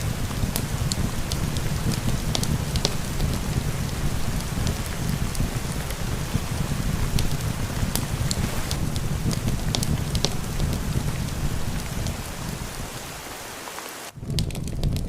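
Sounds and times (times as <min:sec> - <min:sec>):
heavy low rumble: 0:00.0 - 0:13.2, 0:14.2 - 0:15.0
steady rain: 0:00.0 - 0:15.0
wood fire crackling: 0:00.0 - 0:15.0.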